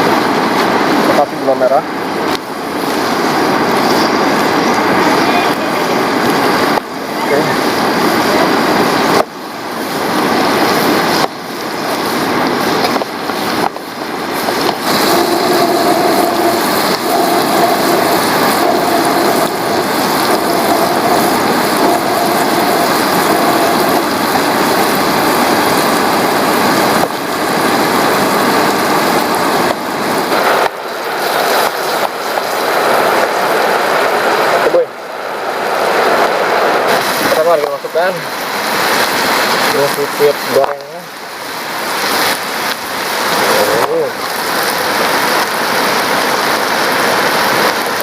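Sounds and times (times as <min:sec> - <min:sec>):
sambal sizzling in oil: 0:02.5 - 0:34.4, 0:36.9 - 0:48.0.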